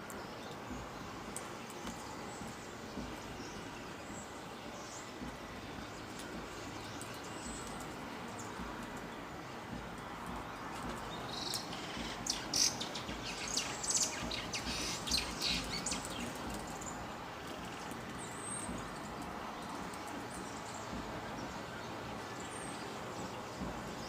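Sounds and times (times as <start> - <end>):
outdoor background hiss: 0.0 - 24.0
small birds chirping: 0.0 - 24.0.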